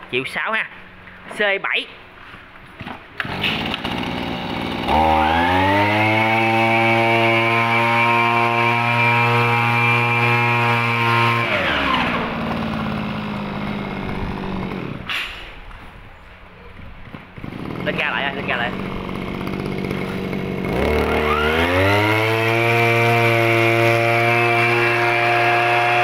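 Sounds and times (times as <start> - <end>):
two-stroke engine revving: 3.2 - 15.1, 16.7 - 26.0.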